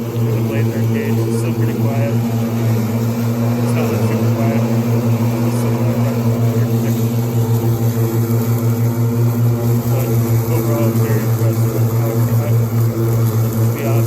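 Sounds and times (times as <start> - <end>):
electric mower humming: 0.0 - 14.0.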